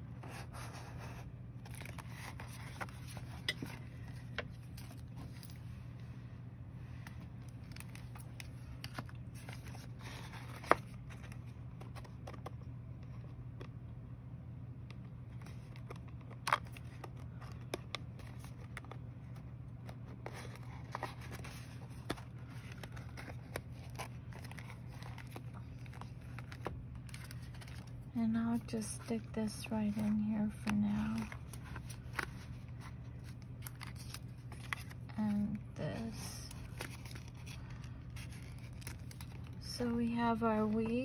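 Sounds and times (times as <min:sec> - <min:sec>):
low steady hum: 0:00.0 - 0:41.0
hands handling paper journal: 0:00.2 - 0:06.1, 0:06.8 - 0:13.8, 0:14.9 - 0:41.0.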